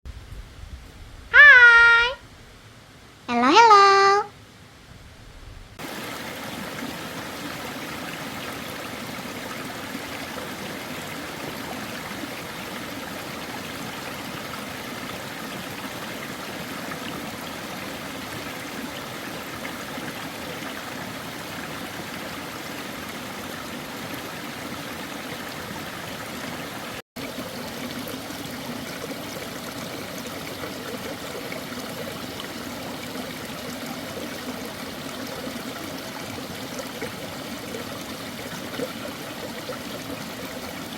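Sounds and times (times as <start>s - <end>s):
stream running: 5.8s - 40.9s.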